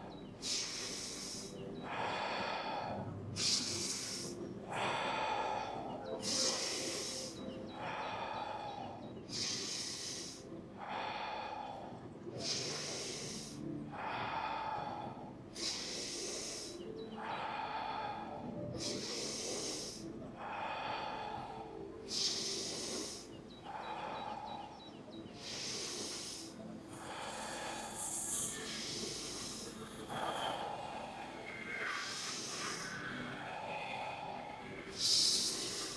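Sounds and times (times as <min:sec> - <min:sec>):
person breathing forcefully: 0:00.0 - 0:35.9.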